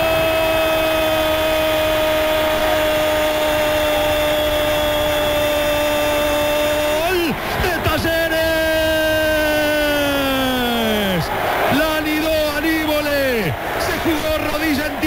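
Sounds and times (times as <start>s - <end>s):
commentator shouting: 0.0s - 15.0s
stadium crowd cheering: 0.0s - 15.0s.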